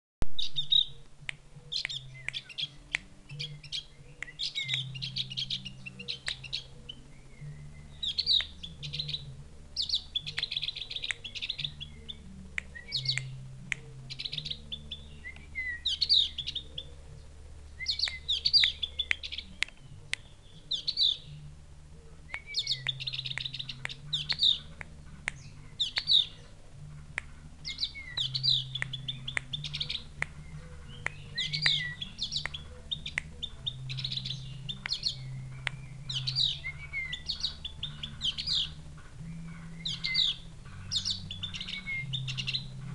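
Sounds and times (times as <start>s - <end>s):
bird high chirps: 0.4s - 21.5s, 22.1s - 42.9s.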